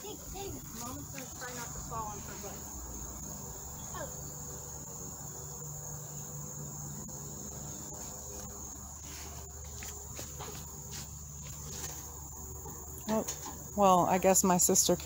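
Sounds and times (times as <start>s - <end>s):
crickets trilling: 0.0s - 15.0s
low steady hum: 0.0s - 15.0s.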